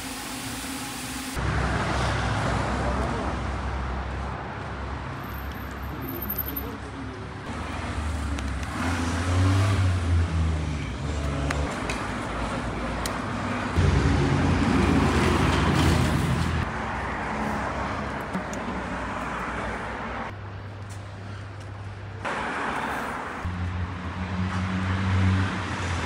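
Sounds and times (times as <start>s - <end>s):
car engines passing: 1.4s - 26.0s.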